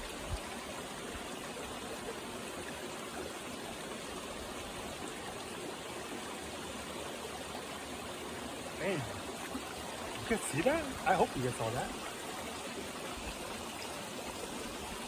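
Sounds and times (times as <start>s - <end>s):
creek water flowing over rocks: 0.0s - 15.0s.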